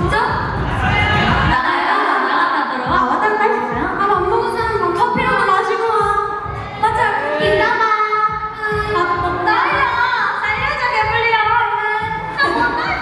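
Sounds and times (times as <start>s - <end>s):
backing music: 0.0s - 1.7s, 2.9s - 13.0s
women singing pop song: 0.0s - 13.0s.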